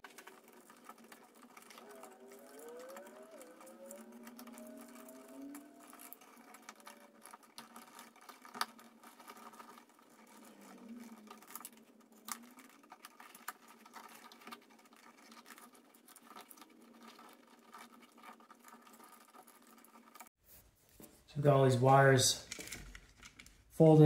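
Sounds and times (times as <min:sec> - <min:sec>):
wires handled with clicks and rubbing: 0:00.0 - 0:21.3, 0:22.0 - 0:23.8.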